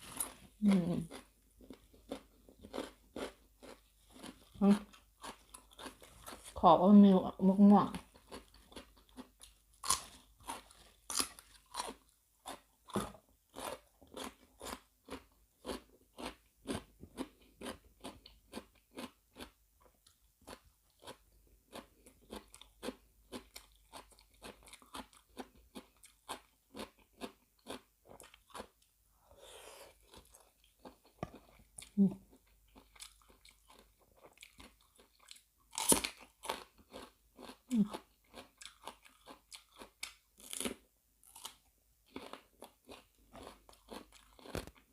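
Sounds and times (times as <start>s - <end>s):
crunchy chewing: 0.0s - 6.6s, 8.0s - 28.8s, 29.8s - 44.9s.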